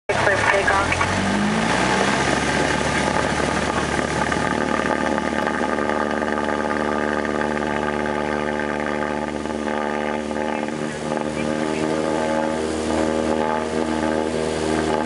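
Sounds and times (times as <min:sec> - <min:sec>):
airplane engine drone: 0:00.1 - 0:15.0.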